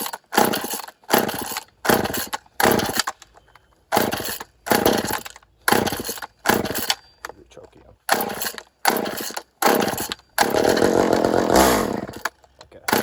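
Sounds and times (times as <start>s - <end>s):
chainsaw engine cranking: 0.0s - 7.4s, 8.0s - 13.0s
starter cord pulls: 0.0s - 7.4s, 8.1s - 13.0s.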